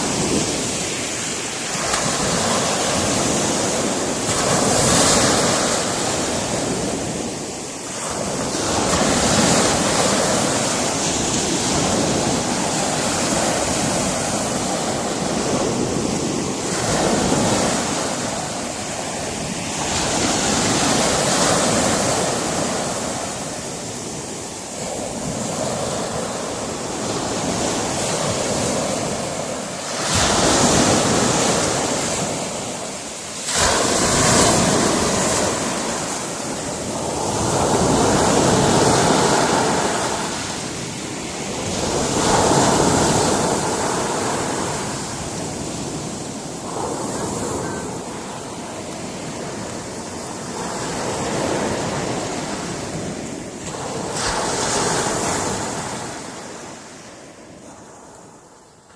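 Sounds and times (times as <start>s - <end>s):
waves breaking on rocky shore: 0.0s - 58.3s
wind noise on microphone: 0.0s - 58.9s.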